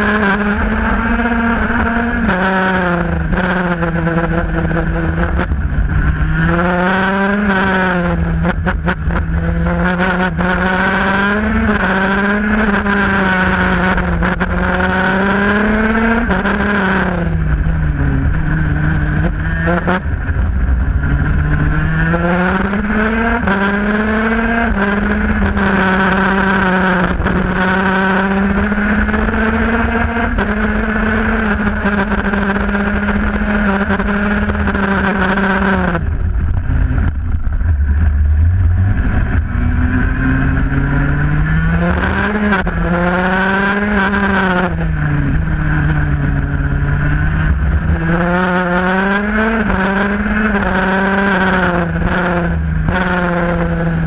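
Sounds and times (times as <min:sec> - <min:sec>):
two-stroke kart engine running hard: 0:00.0 - 0:54.0
wind rumble on microphone: 0:00.0 - 0:54.0.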